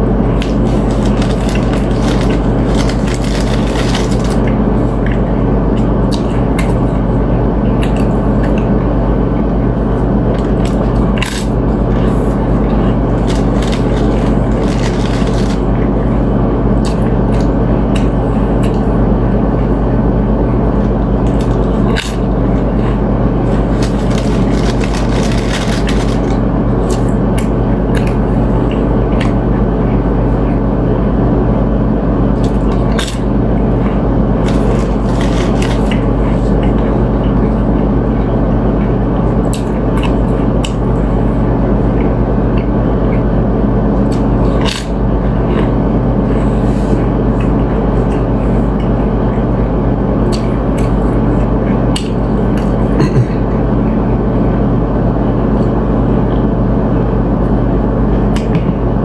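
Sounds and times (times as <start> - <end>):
loud low hum: 0.0 - 59.0.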